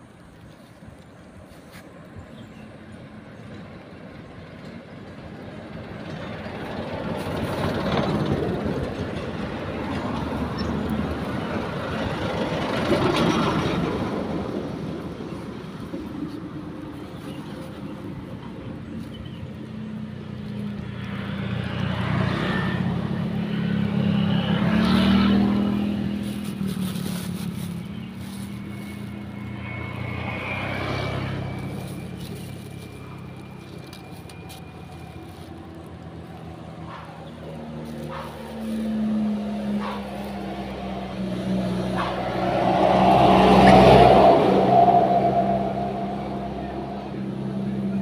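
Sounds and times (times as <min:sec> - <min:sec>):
vehicles passing by: 0:00.0 - 0:48.0.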